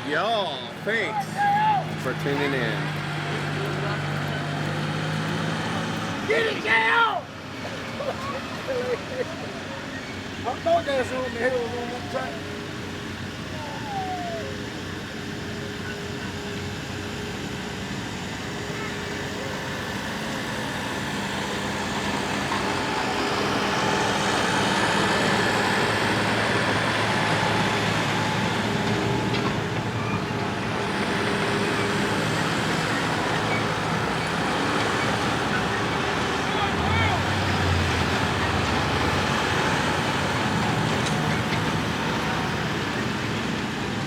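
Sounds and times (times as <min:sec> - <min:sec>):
vehicle engine running: 0:00.0 - 0:06.4, 0:10.2 - 0:44.0.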